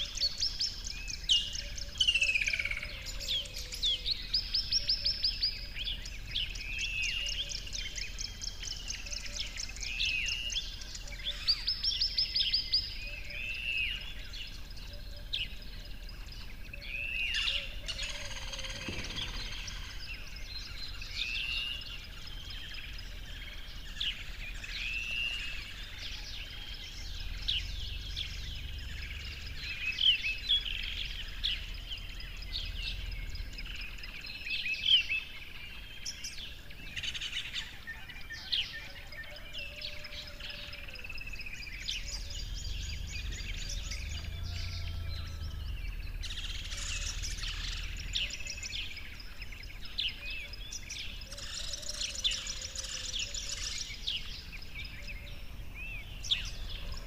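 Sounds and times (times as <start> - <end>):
birds chirping and trilling: 0.0 - 57.0
low steady rumble: 0.0 - 57.0.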